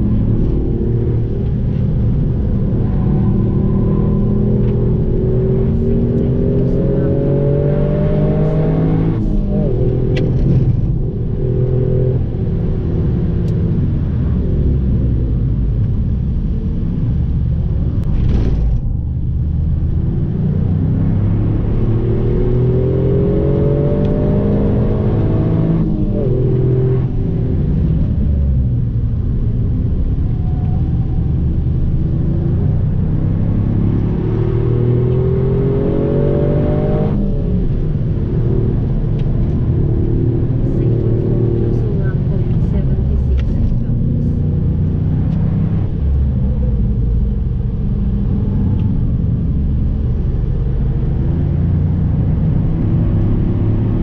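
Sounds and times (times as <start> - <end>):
car engine revving: 0.0 - 54.0
low road and tyre rumble: 0.0 - 54.0.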